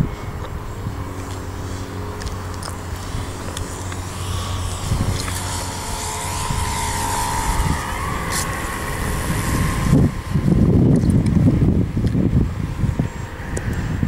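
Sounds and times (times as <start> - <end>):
model plane motor whining: 0.0 - 14.0
wind rumble on microphone: 0.0 - 14.0.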